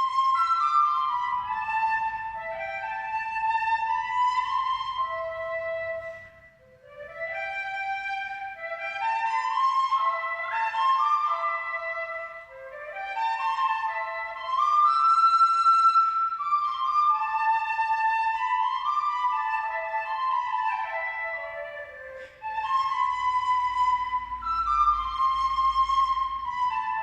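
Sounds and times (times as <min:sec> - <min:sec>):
flute-like melody: 0:00.0 - 0:27.0.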